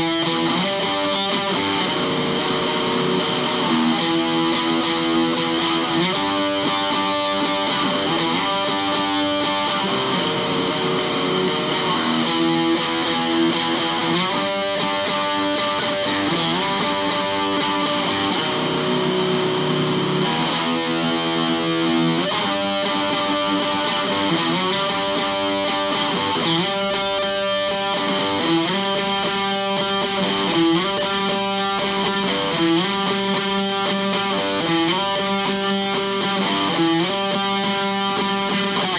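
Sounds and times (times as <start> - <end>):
electric guitar chords: 0.0 - 38.9.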